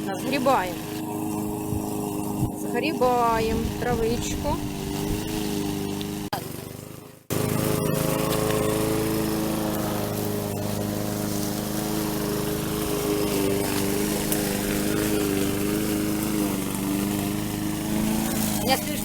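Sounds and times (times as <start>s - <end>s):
lawn mower engine cutting grass: 0.0s - 19.0s.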